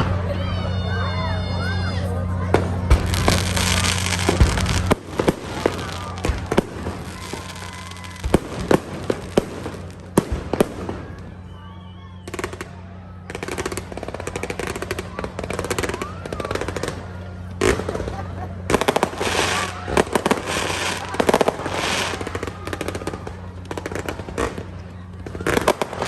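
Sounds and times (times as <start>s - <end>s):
rapid firework crackling: 2.3s - 26.0s
firework shells bursting: 3.0s - 11.4s, 12.3s - 26.0s.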